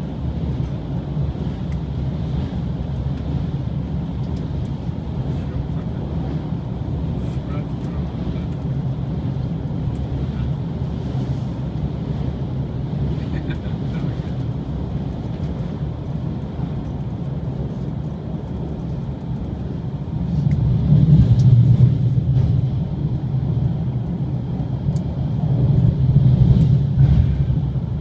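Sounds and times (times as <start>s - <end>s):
train rumbling over bridge: 0.0s - 28.0s.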